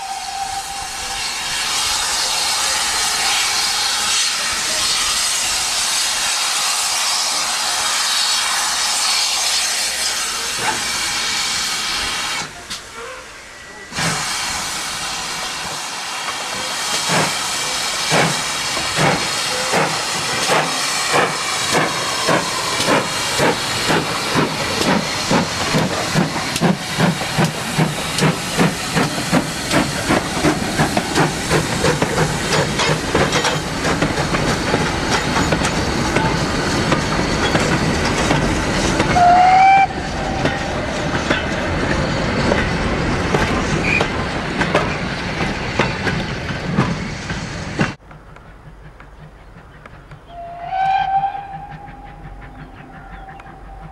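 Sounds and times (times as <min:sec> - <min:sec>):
steam hissing: 0:00.0 - 0:53.9
steam locomotive exhaust chuffs: 0:00.0 - 0:53.9.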